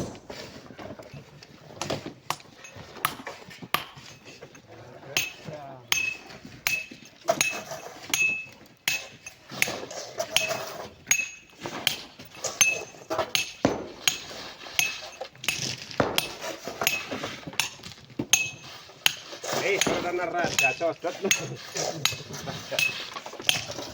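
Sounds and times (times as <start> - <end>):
metal tools striking rock: 1.8 - 4.3, 5.1 - 23.9.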